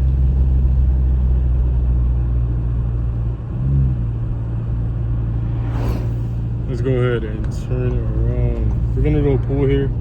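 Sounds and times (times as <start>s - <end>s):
car engine and road noise drone: 0.0s - 10.0s.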